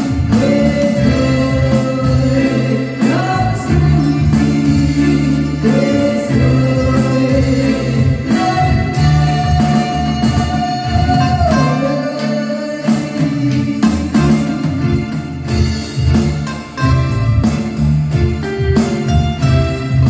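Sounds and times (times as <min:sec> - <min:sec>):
electric bass: 0:00.0 - 0:20.0
electronic keyboards: 0:00.0 - 0:20.0
steady drum beat: 0:00.0 - 0:20.0.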